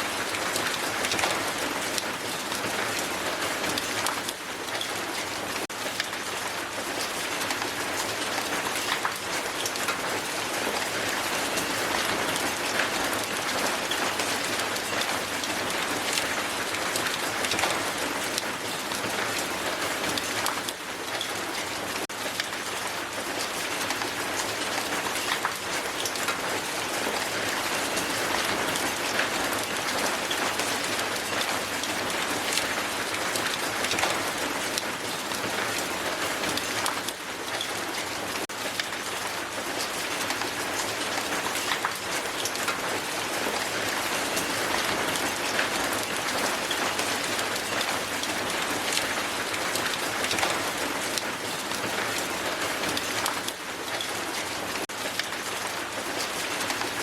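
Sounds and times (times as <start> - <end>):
hail on a hard surface: 0.0 - 57.0.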